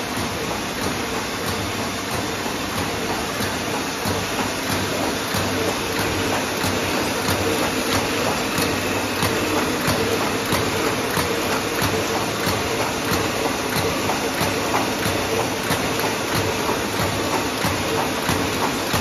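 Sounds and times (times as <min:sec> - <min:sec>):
embossing machine clacking: 0:00.1 - 0:19.0.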